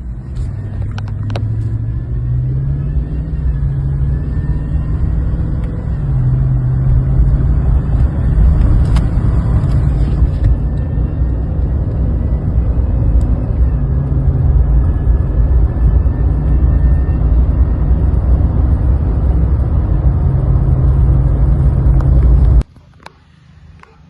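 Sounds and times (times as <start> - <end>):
truck engine rumble: 0.0 - 24.0.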